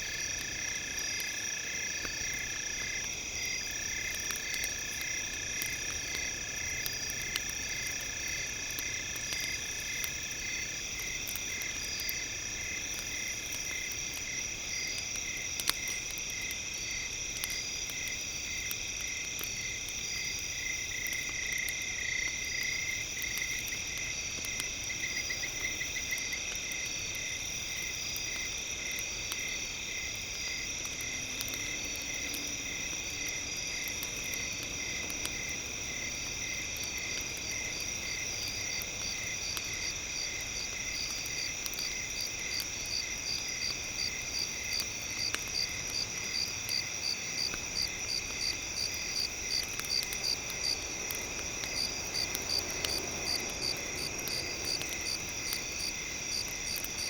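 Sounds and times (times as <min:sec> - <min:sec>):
campfire crackling: 0:00.0 - 0:57.0
cricket chirping: 0:00.0 - 0:57.0
night insects trilling: 0:00.0 - 0:57.0.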